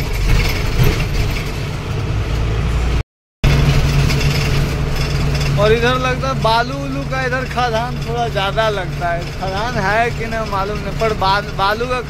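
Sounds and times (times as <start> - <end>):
road and cab noise: 0.0 - 12.0
truck engine humming: 0.0 - 12.0.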